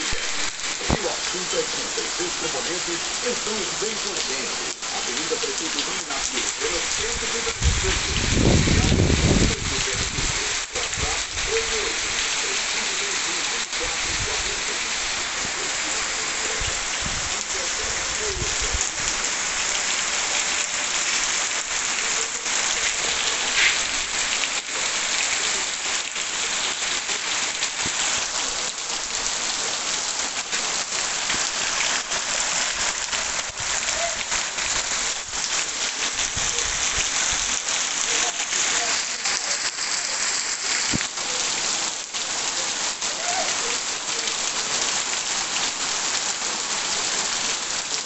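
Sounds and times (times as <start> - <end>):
heavy rain falling: 0.0 - 48.0
sharp ticks of raindrops: 0.0 - 48.0.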